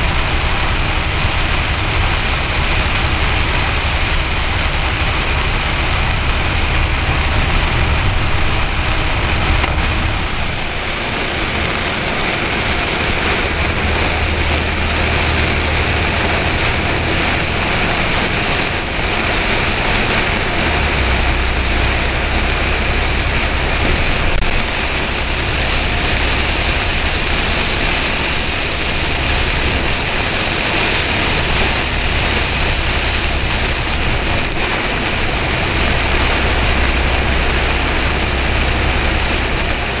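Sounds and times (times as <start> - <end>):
engine rumble: 0.0 - 40.0
torrential rain on a vehicle: 0.0 - 40.0
tyres on a flooded road: 0.0 - 40.0.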